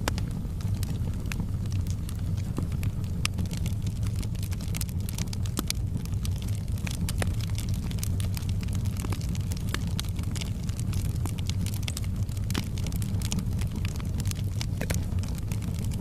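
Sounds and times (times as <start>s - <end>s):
fire crackling and popping: 0.0s - 16.0s
fire rumbling in a fireplace: 0.0s - 16.0s.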